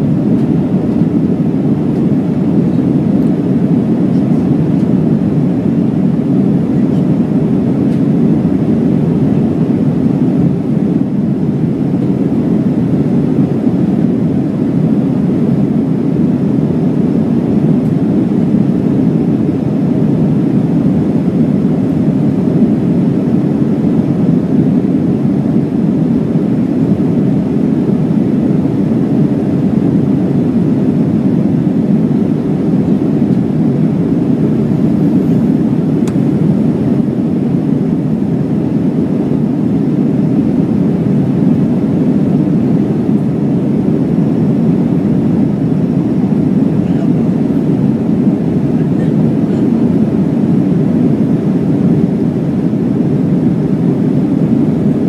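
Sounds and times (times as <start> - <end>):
airliner cabin engine rush: 0.0 - 55.0.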